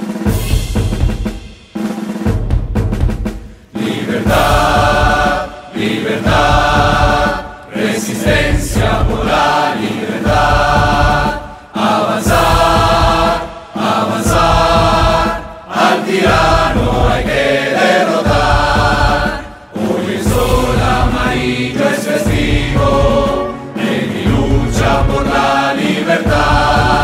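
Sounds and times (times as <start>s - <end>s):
group singing chant-like anthem: 3.7s - 27.0s.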